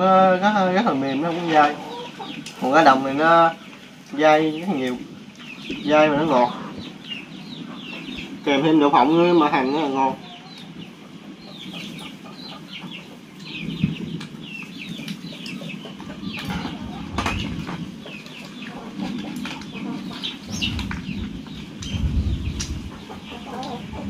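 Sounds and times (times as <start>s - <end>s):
chickens clucking and chirping: 0.0s - 24.0s.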